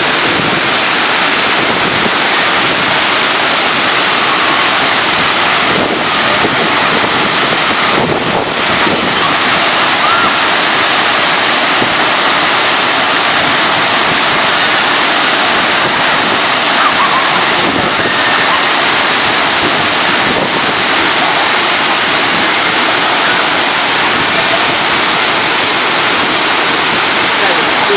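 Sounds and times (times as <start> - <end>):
waterfall: 0.0 - 27.9.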